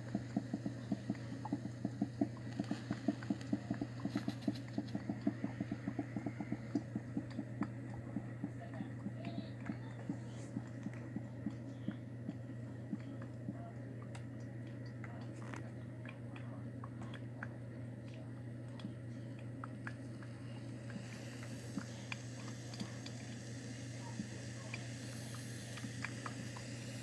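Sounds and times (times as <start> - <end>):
coffee machine dripping: 0.0 - 27.0
steady low hum: 0.0 - 27.0.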